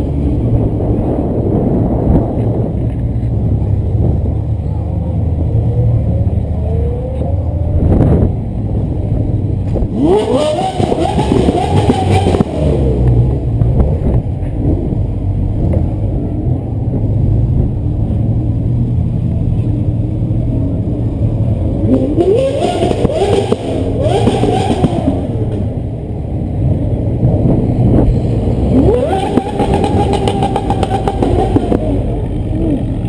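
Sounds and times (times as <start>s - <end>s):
steady low rumble: 0.0s - 10.2s, 11.0s - 33.0s
sports car engines revving: 0.0s - 33.0s.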